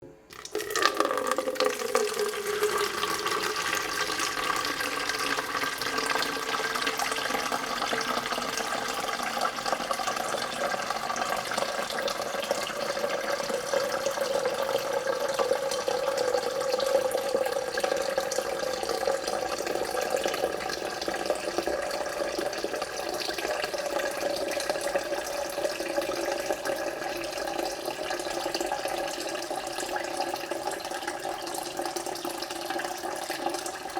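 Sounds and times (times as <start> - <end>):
water filling a jug: 0.3 - 33.9.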